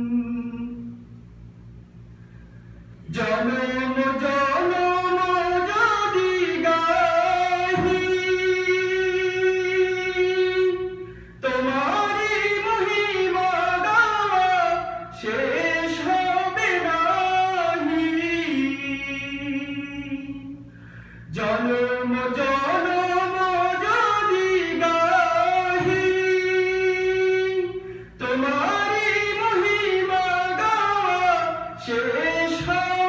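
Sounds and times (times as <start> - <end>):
man singing unaccompanied: 0.0 - 1.0, 3.0 - 20.6, 21.3 - 33.0.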